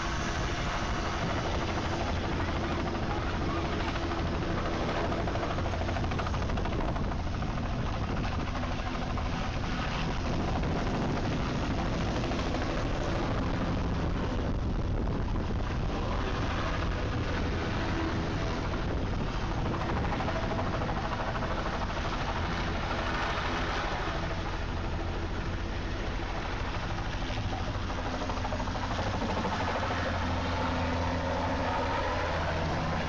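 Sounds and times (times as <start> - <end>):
helicopter rotor and turbine engine: 0.0 - 33.0.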